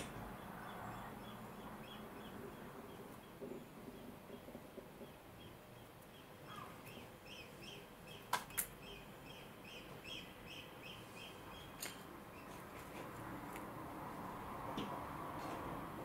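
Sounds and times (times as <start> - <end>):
bird chirping: 0.0 - 12.9.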